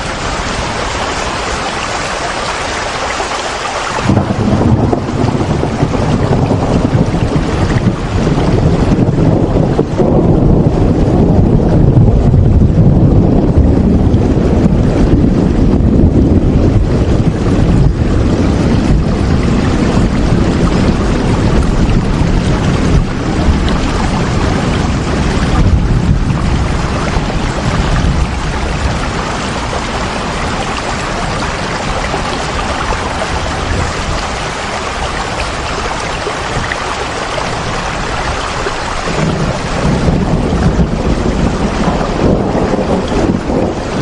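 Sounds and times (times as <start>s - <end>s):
heavy rain hissing: 0.0s - 11.6s, 13.2s - 44.0s
low rumble: 4.0s - 36.0s, 39.1s - 44.0s.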